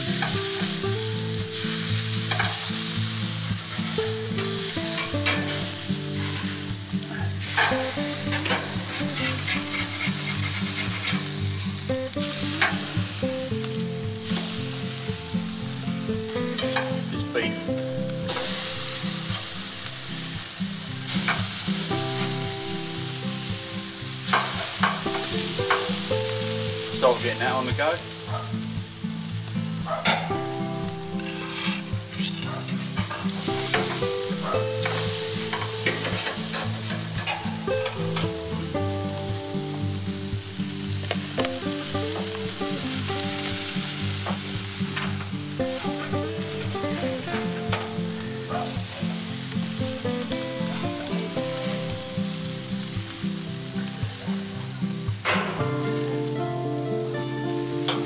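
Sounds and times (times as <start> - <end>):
background music: 0.0 - 58.0
meat sizzling on a grill: 0.0 - 58.0.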